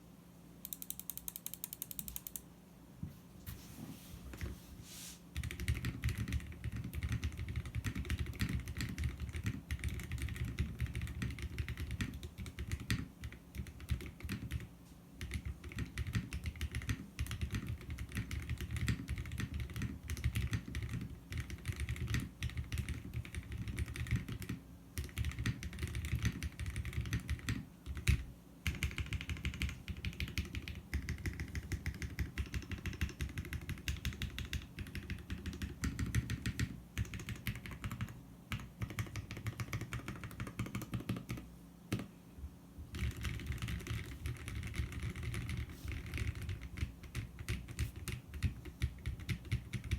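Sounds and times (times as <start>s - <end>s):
typing on mechanical keyboard: 0.6s - 2.4s, 5.4s - 42.1s, 42.9s - 49.9s.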